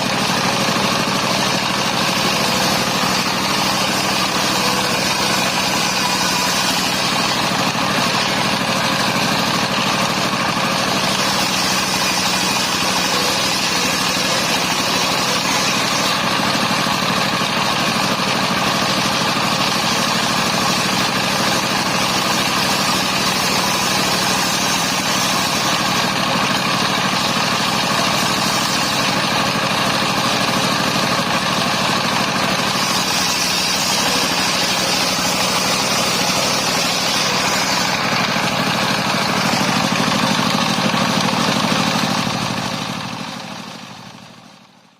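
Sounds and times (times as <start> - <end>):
sawmill engine droning: 0.0 - 44.8.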